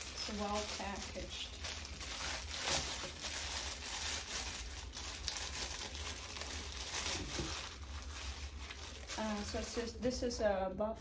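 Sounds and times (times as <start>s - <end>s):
plastic bag crinkling and tearing: 0.0s - 10.3s.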